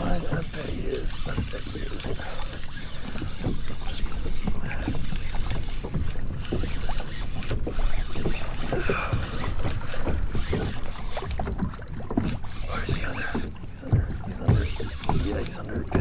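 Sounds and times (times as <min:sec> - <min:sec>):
water sloshing against kayak hull: 0:00.0 - 0:16.0.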